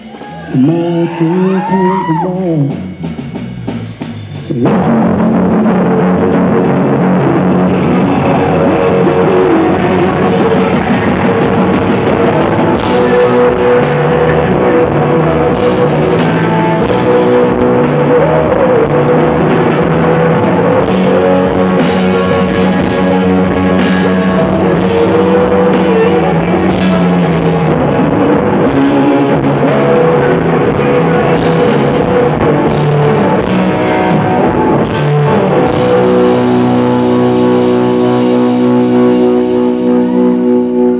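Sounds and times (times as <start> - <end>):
amplified electric guitar: 0.0 - 40.9
drums: 0.0 - 40.9.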